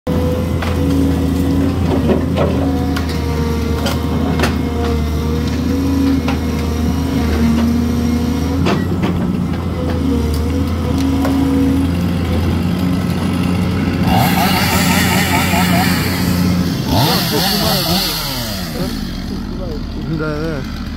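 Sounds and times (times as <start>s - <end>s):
excavator diesel engine running: 0.1s - 20.9s.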